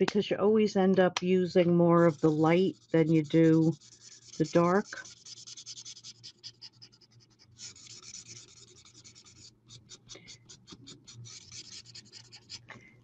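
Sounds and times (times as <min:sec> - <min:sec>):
marker tip scratching on card: 0:01.9 - 0:12.7.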